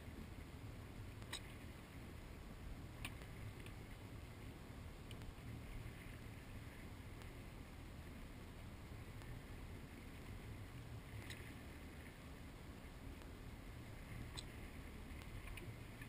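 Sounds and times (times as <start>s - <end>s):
watercraft engine rumble: 0.0s - 16.0s.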